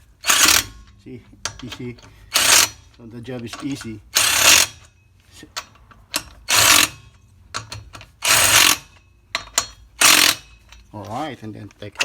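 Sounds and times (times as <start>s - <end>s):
ratchet wrench clicking: 0.2s - 4.9s, 5.5s - 11.9s.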